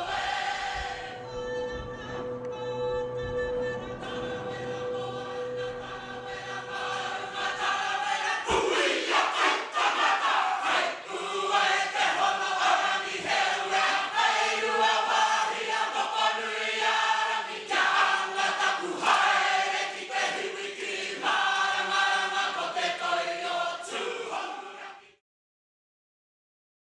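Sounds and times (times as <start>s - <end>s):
choir singing a chant: 0.0s - 25.2s.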